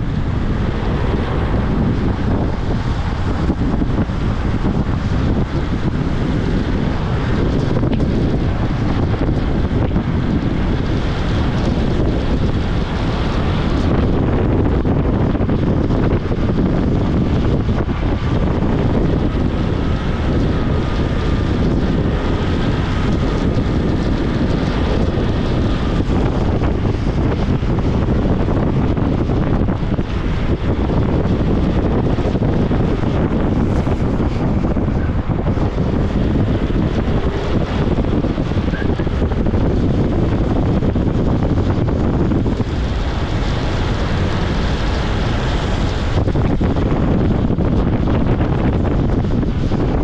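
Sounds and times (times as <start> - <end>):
skateboard wheels rolling on asphalt: 0.0 - 50.0
wind buffeting microphone: 0.0 - 50.0.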